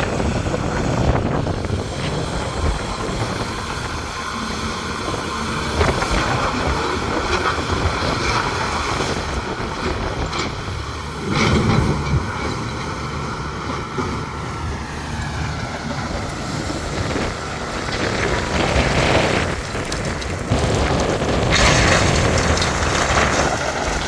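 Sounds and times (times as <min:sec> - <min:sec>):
excavator engine and hydraulics: 0:00.0 - 0:24.0.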